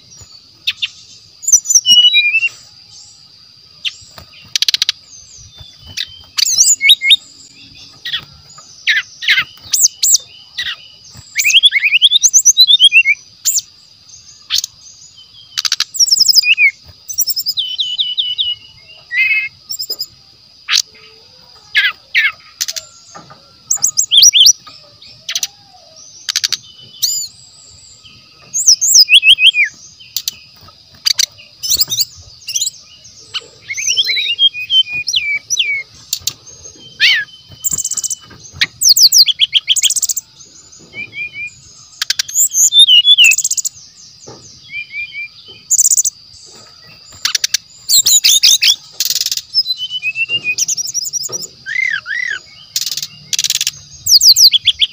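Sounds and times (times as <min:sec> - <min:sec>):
bird singing whistled notes: 0:00.0 - 0:54.9.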